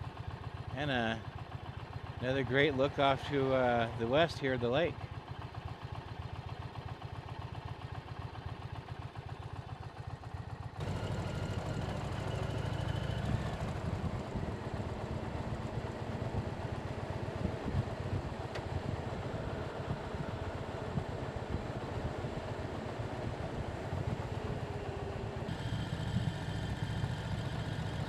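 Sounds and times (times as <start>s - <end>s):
motorcycle engine idling: 0.0s - 28.0s
rough engine rumble with rush: 0.0s - 28.0s.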